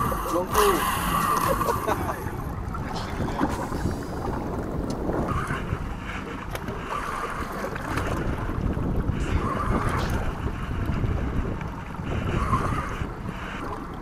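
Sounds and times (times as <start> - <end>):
water slapping boat hull: 0.0 - 14.0
wind rumbling on microphone: 0.0 - 14.0.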